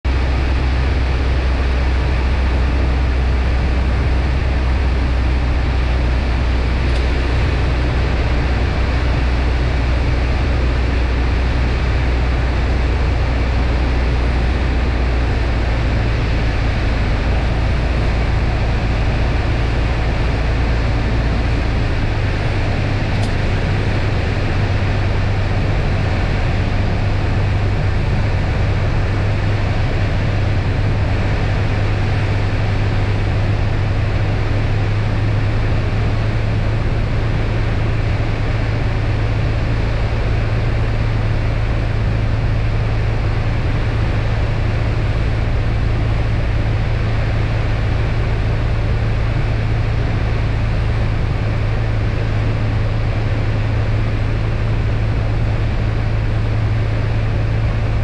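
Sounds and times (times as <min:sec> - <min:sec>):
aircraft engine and propeller drone: 0:00.1 - 0:58.0.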